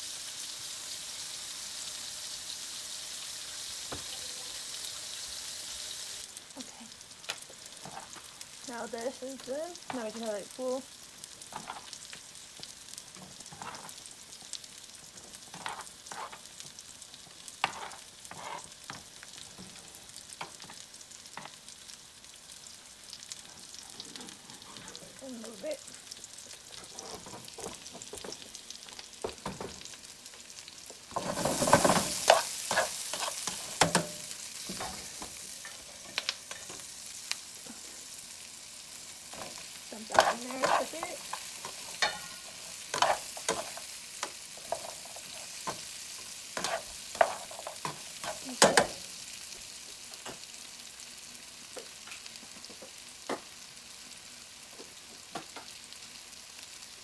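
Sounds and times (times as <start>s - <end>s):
vegetables sizzling in frying pan: 0.0s - 57.0s.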